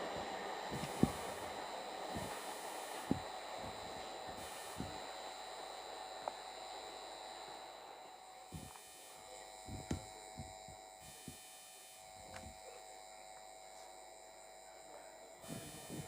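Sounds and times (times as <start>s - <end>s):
faint electrical buzz: 0.0s - 16.0s.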